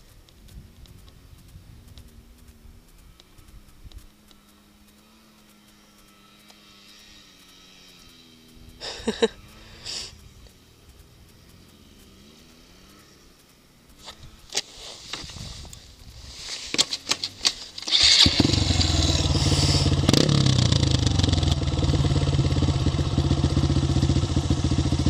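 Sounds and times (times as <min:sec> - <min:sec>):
distant dirt bike engines revving: 0:00.0 - 0:25.0.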